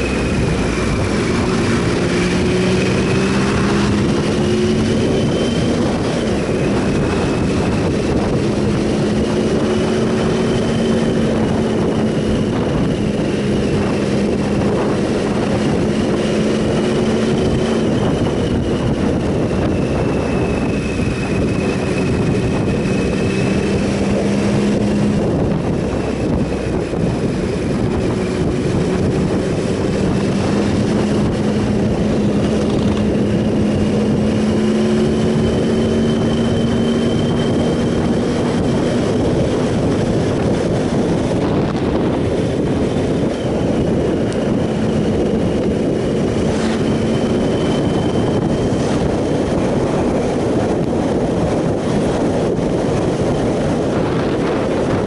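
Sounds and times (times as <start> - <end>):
motorcycle engine cruising: 0.0 - 55.0
wind noise rushing: 0.0 - 55.0.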